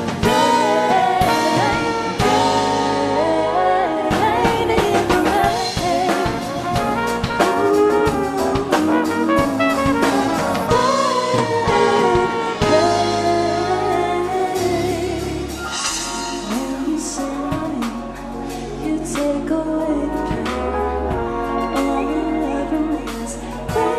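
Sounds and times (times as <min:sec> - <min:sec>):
brass horn: 0:00.0 - 0:23.9
drum kit: 0:00.0 - 0:23.9
woman singing lead: 0:00.0 - 0:23.9
second female voice singing: 0:00.2 - 0:06.9, 0:07.6 - 0:23.9.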